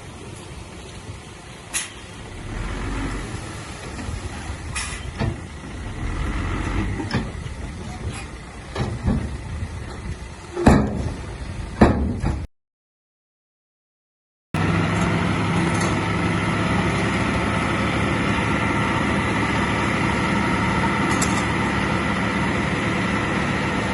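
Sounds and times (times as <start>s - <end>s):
bulldozer diesel engine running: 1.1s - 12.5s, 14.6s - 23.9s.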